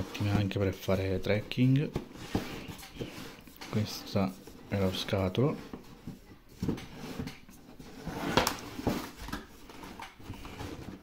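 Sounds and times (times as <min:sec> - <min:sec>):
hands handling cardboard box: 0:00.0 - 0:11.0.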